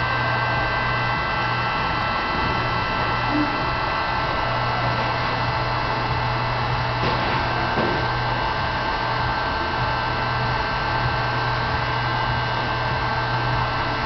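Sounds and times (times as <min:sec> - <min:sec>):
engine low hum: 0:00.0 - 0:14.0.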